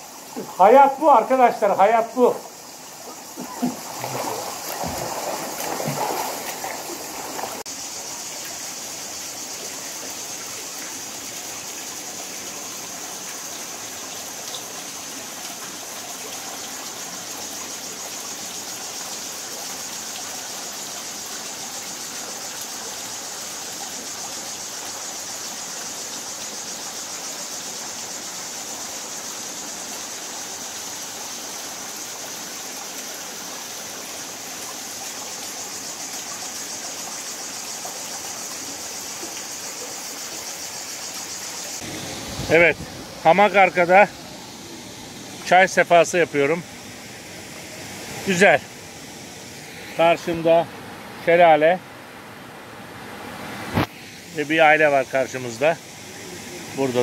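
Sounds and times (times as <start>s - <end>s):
small cascade: 0.0s - 50.6s
stream water running over rocks: 0.0s - 57.0s.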